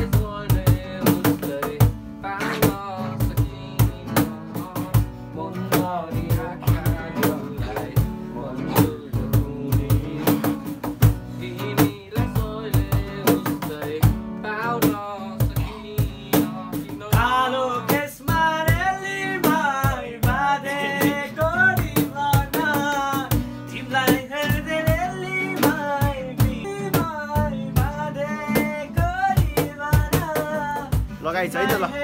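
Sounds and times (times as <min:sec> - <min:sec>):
acoustic guitar strumming: 0:00.0 - 0:32.0
young men singing: 0:00.0 - 0:32.0.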